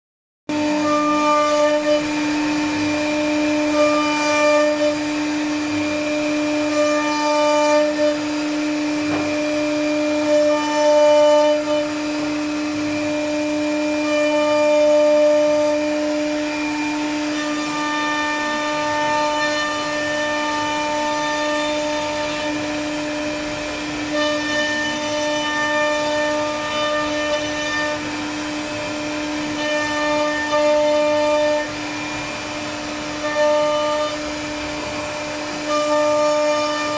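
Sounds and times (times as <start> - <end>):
router spindle cutting wood: 0.5 - 36.9.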